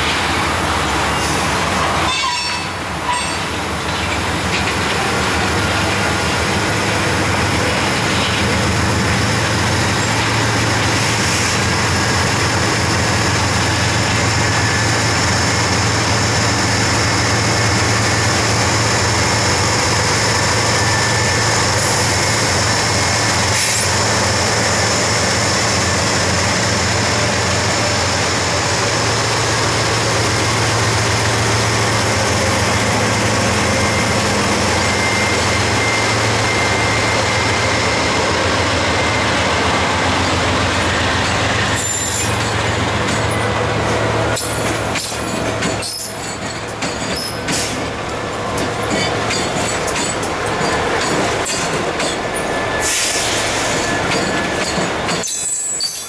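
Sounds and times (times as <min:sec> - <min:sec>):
diesel locomotives humming: 0:00.0 - 0:56.0.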